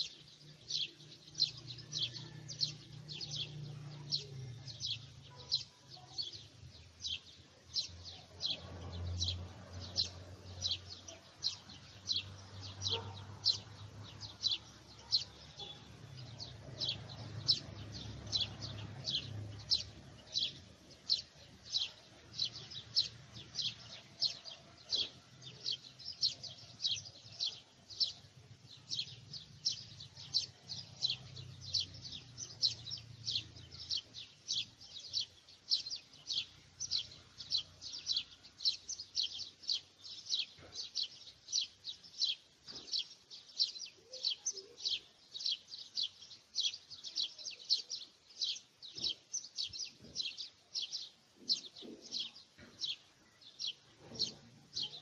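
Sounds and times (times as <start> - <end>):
bird chirping rapidly: 7.0 - 55.0.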